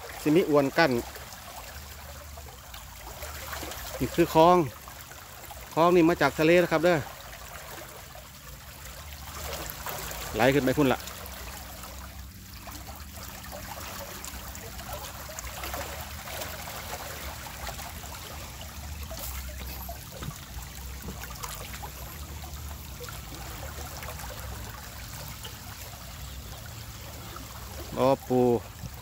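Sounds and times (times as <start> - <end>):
water rushing along a canal: 0.0 - 29.0.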